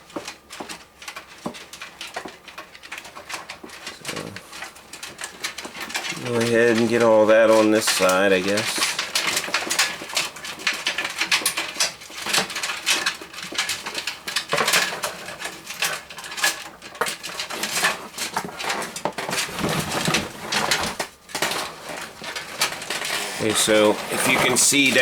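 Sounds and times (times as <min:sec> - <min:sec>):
cables scraping against pc case: 0:00.6 - 0:25.0.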